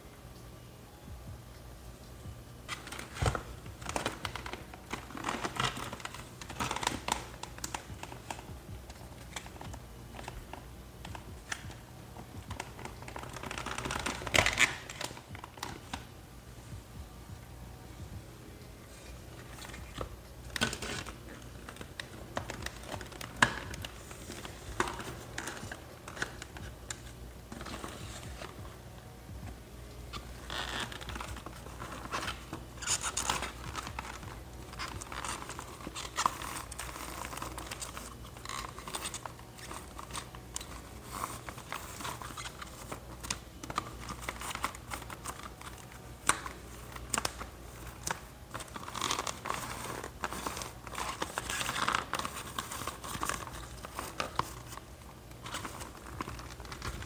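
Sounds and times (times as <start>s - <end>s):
low steady hum: 0.0s - 57.0s
packaging rustling and crinkling: 2.7s - 16.1s, 18.9s - 28.8s, 30.1s - 57.0s.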